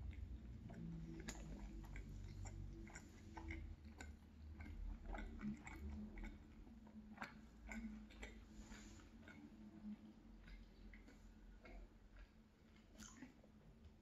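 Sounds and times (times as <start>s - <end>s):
wet mouth clicks: 0.0s - 13.5s
close-miked chewing: 0.0s - 14.0s.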